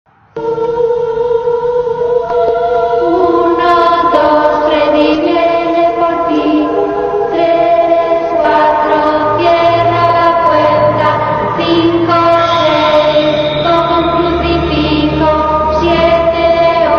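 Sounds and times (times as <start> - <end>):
choir singing long held notes: 0.1 - 16.9.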